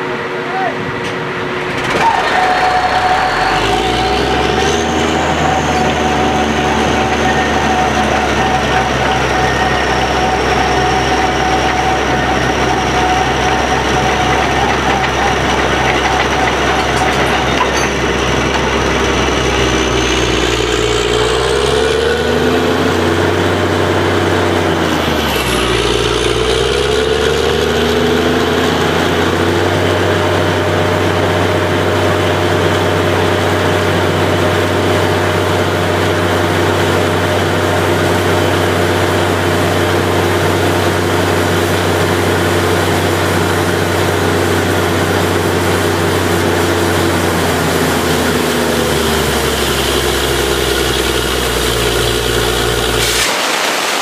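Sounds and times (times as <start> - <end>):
drilling rig engine running: 0.0 - 54.0.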